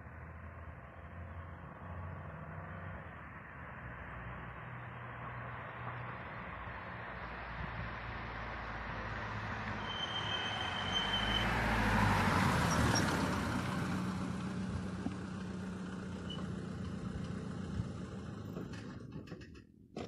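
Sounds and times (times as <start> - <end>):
diesel car driving past: 0.0 - 19.2.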